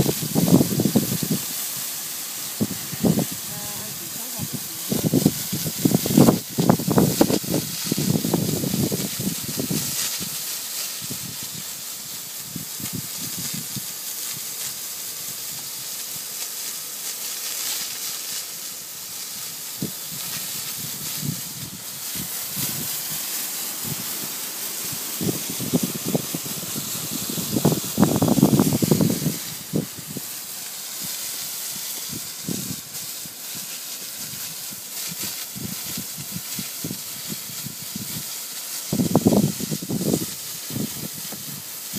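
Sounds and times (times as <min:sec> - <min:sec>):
sprinkler water hissing: 0:00.0 - 0:41.9.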